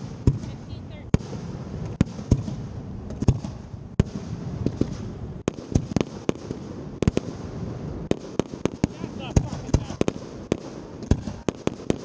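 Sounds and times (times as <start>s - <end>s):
fireworks bangs: 0.0s - 12.0s
steady background hiss: 0.0s - 12.0s.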